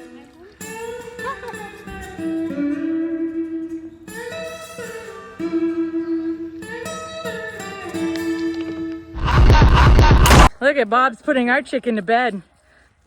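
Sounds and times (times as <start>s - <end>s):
plucked guitar notes: 0.0s - 10.5s.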